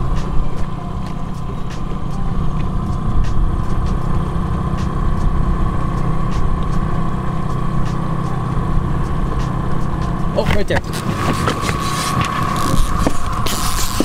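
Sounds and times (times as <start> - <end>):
outboard motor droning: 0.0 - 14.0.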